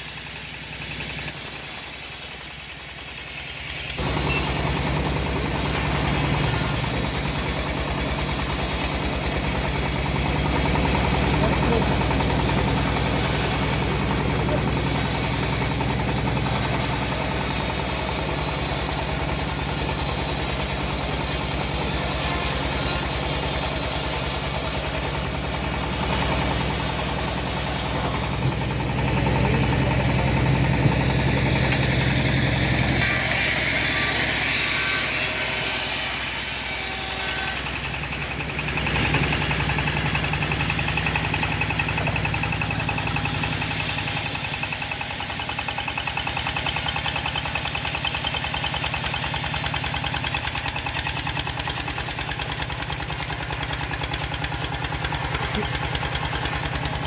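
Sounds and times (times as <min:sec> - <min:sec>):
bandsaw engine humming: 0:00.0 - 0:57.0.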